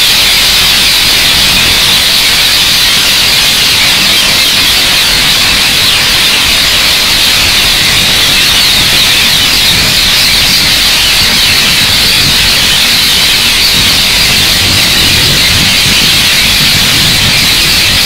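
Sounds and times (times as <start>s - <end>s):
flock of parakeets calling: 0.0s - 18.0s.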